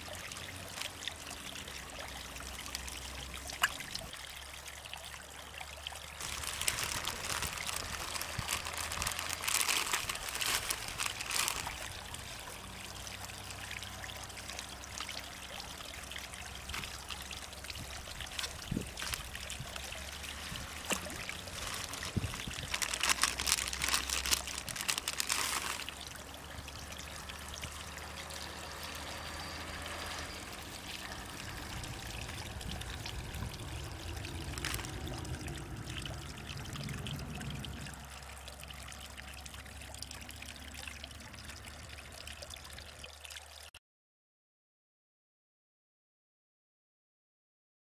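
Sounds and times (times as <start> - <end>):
water pouring into a pond: 0.0 - 43.8.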